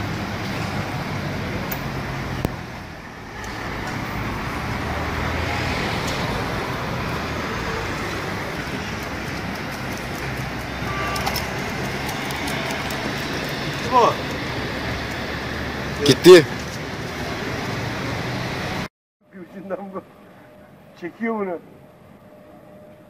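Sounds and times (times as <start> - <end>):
city traffic noise: 0.0 - 23.0.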